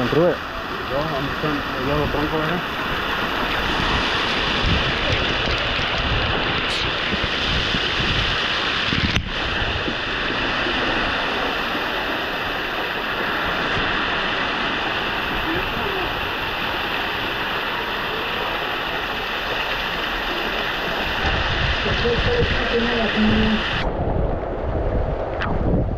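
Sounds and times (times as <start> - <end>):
water rushing over rock: 0.0 - 25.9.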